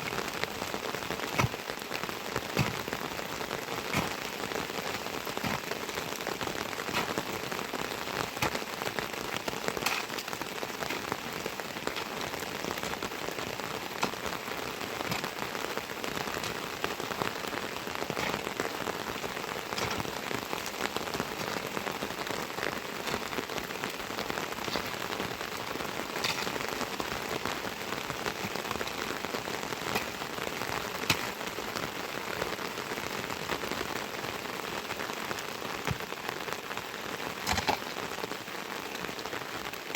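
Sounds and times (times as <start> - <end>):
heavy rain falling: 0.0 - 39.9
raindrops ticking close by: 0.0 - 39.9.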